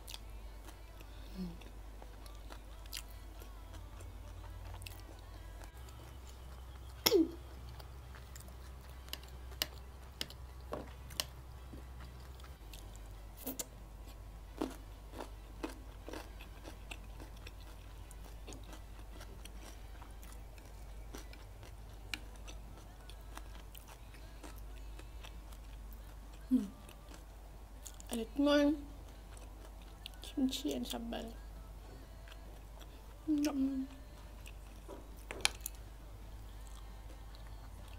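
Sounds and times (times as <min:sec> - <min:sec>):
person chewing food: 0:00.0 - 0:28.1, 0:28.9 - 0:30.3, 0:31.7 - 0:37.9
steady low hum: 0:00.0 - 0:37.9.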